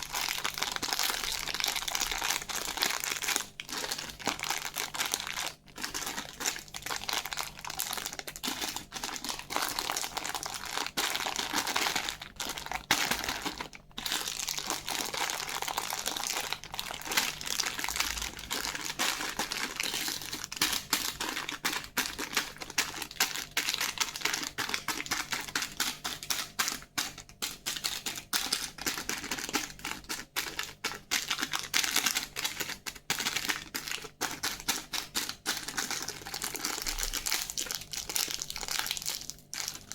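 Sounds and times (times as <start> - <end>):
plastic wrappers crinkling: 0.0 - 39.9.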